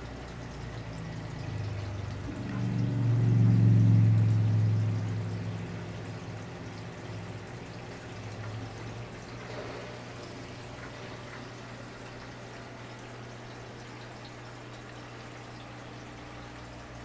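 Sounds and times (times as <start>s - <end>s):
low pump hum: 0.0s - 17.0s
water trickling and splashing: 0.0s - 17.0s.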